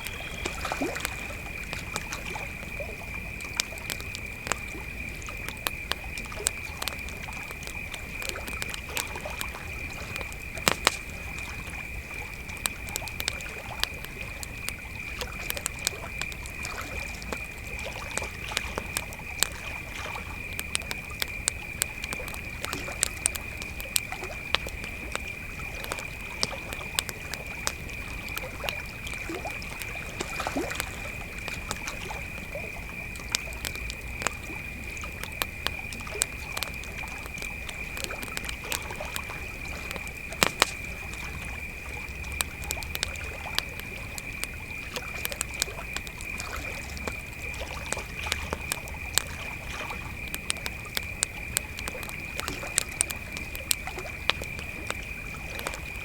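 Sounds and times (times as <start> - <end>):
campfire crackling and popping: 0.0 - 56.0
crickets trilling: 0.0 - 56.0.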